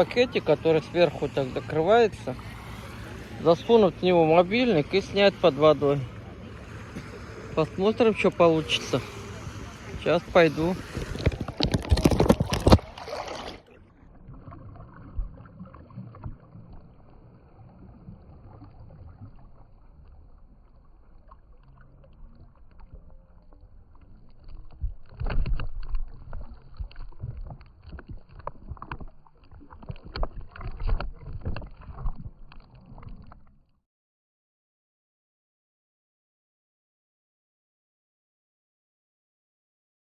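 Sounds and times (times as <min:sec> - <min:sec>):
muffled underwater rumble: 0:00.0 - 0:33.6
water splashing: 0:00.0 - 0:33.6.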